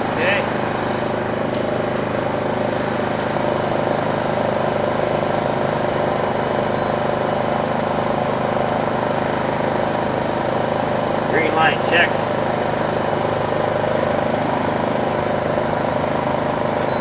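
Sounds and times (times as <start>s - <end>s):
generator engine running: 0.0s - 17.0s.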